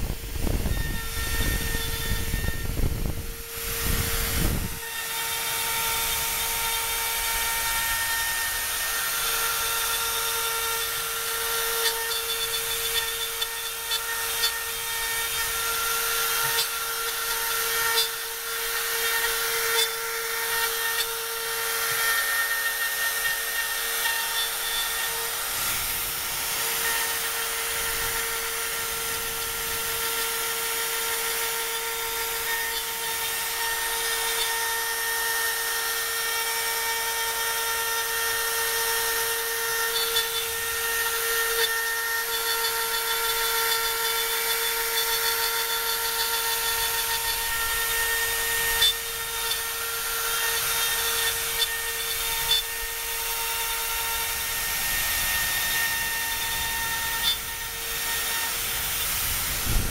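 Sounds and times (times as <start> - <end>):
cnc router spindle whine: 0.0 - 59.9.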